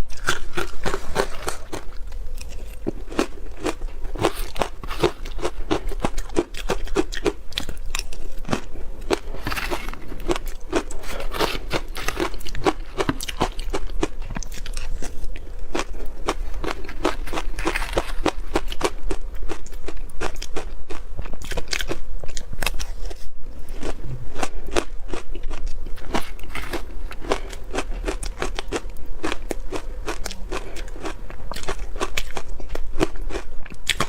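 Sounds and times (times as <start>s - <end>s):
ice being chewed: 0.0s - 23.1s, 23.7s - 34.0s.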